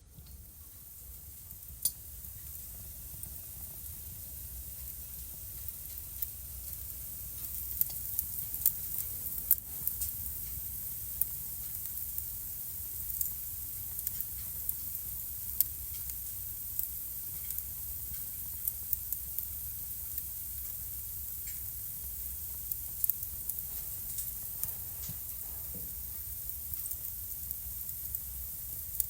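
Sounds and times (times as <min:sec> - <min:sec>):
steady hiss: 0:00.0 - 0:29.0
fire pops and snaps: 0:00.1 - 0:29.0.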